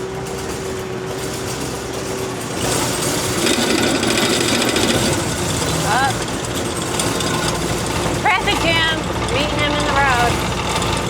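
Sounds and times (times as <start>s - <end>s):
diesel engine running: 0.0s - 11.0s
machine rattling: 0.0s - 11.0s.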